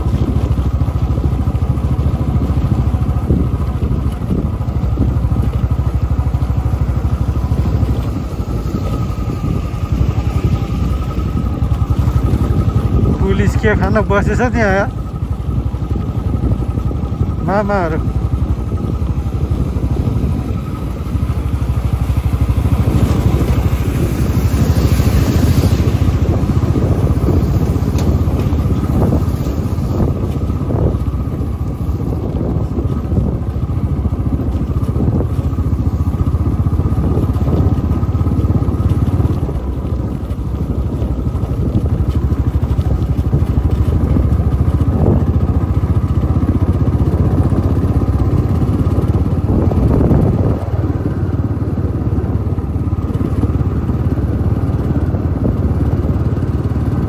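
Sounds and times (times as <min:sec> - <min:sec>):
motorcycle engine rumble: 0:00.0 - 0:57.0
road noise: 0:00.0 - 0:57.0.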